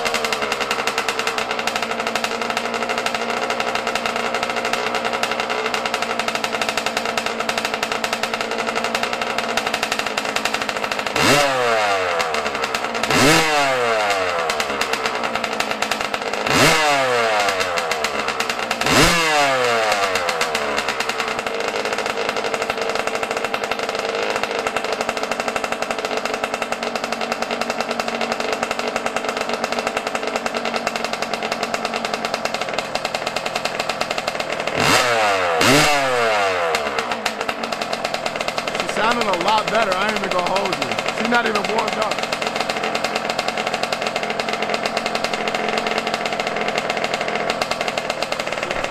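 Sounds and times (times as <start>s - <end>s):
two-stroke engine idling and revving: 0.0s - 48.9s.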